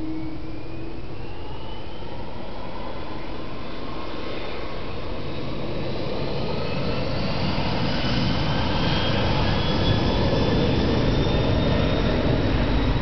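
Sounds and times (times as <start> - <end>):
high engine whine: 0.0 - 13.0
jet engines roaring: 0.0 - 13.0.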